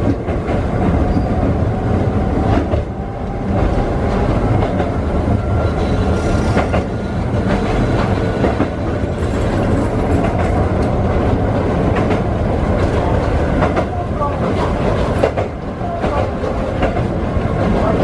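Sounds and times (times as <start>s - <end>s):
train wheels rumbling: 0.0s - 18.0s
wheels clicking over rail joints: 3.5s - 18.0s.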